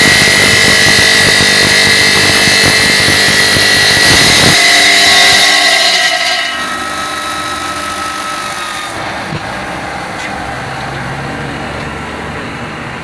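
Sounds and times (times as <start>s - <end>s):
circular saw cutting stone: 0.0s - 12.3s.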